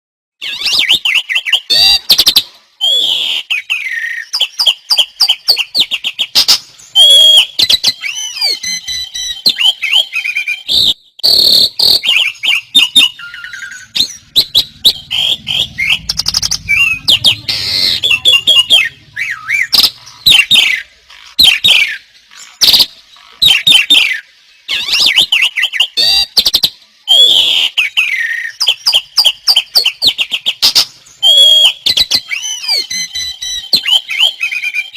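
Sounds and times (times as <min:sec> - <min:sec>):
songbirds singing: 0:00.4 - 0:34.9.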